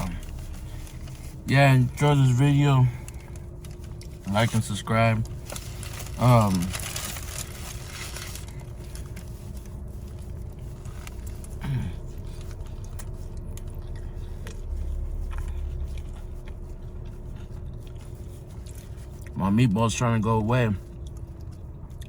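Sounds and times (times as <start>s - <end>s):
chewing and mouth sounds: 0.0s - 19.7s, 20.8s - 22.0s
low rumble: 0.0s - 22.0s.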